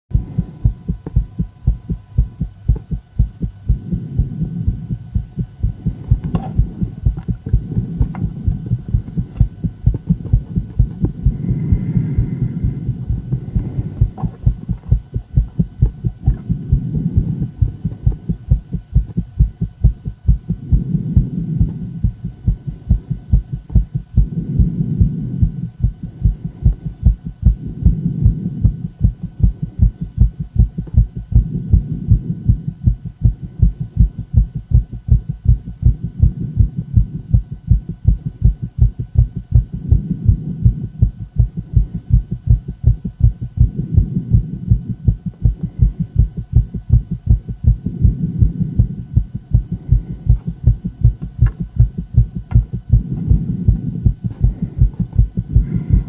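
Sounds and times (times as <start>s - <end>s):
rapid heartbeat thumps: 0.1s - 56.0s.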